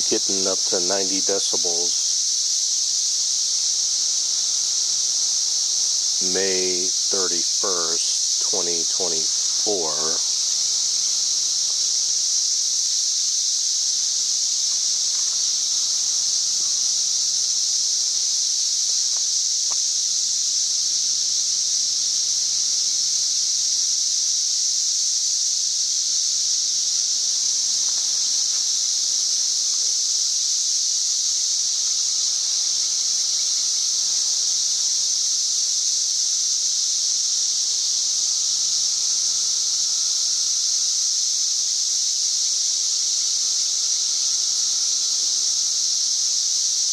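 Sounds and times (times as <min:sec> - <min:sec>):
cicadas singing: 0:00.0 - 0:46.9.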